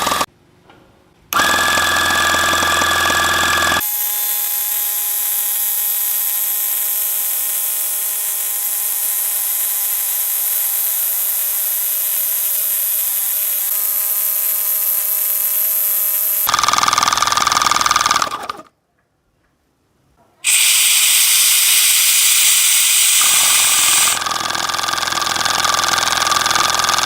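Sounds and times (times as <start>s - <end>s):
small motor whining: 1.4s - 17.0s, 20.4s - 27.0s.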